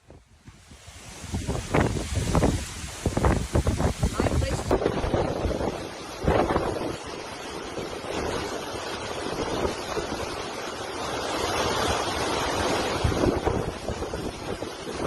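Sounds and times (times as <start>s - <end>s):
hurricane wind: 0.0s - 15.0s
storm-driven water: 0.0s - 15.0s
wind buffeting microphone: 0.0s - 15.0s.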